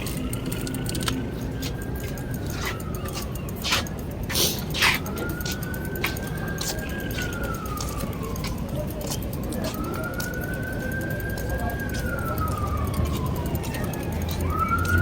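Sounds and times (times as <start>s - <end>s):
sharp clicks: 0.0s - 15.0s
siren wailing: 0.0s - 15.0s.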